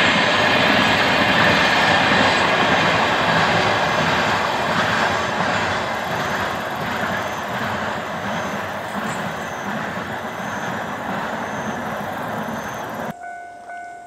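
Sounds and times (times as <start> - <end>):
freight train wheels rumbling: 0.0 - 13.1.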